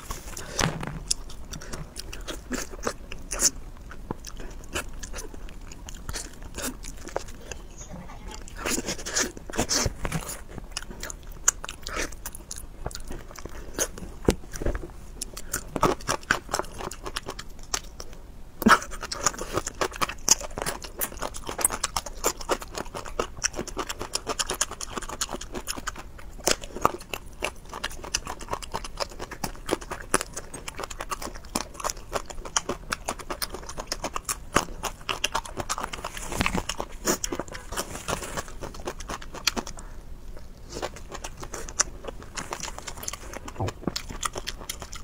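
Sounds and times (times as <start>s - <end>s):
person chewing with wet smacking: 0.0s - 45.0s.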